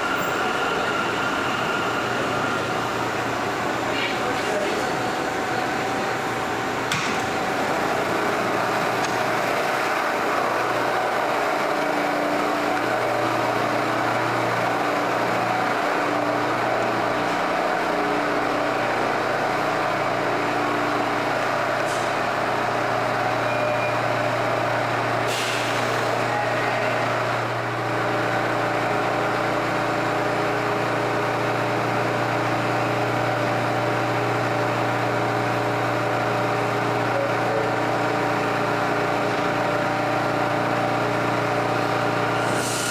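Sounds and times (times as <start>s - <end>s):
subway train rumbling: 0.0s - 42.9s.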